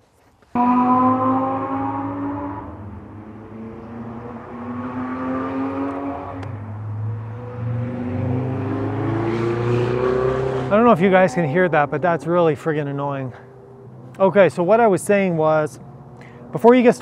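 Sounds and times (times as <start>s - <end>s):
engine rising in pitch: 0.6s - 17.0s.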